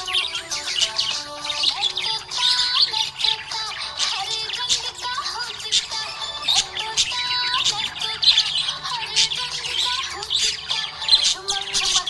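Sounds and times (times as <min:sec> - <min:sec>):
budgerigar chirping: 0:00.0 - 0:12.0.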